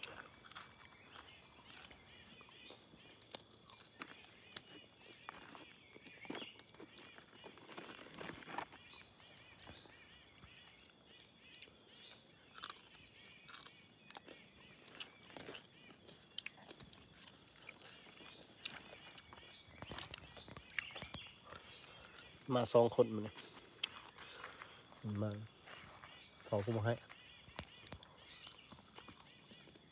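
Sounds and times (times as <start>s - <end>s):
crackles and rustles from hands: 0.0s - 11.8s, 12.7s - 29.9s.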